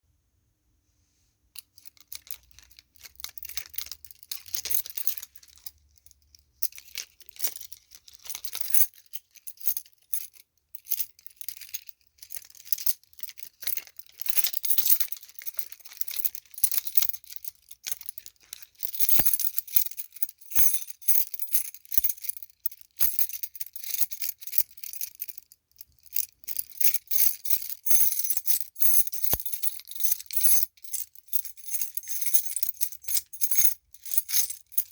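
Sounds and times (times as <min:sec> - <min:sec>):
keys jangling: 0:01.6 - 0:34.9.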